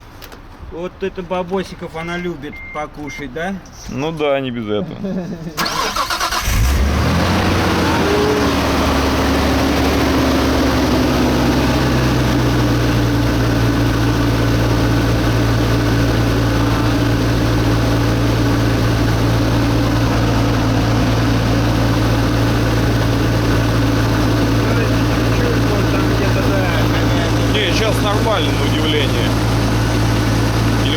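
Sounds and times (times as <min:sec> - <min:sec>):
car engine idling: 0:05.6 - 0:30.9.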